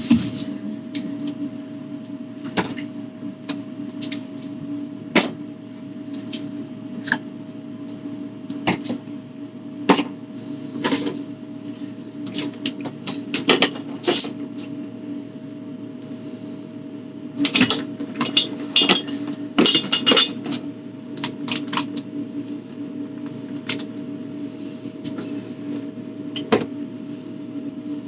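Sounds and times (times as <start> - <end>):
steady refrigerator hum: 0.0 - 28.0.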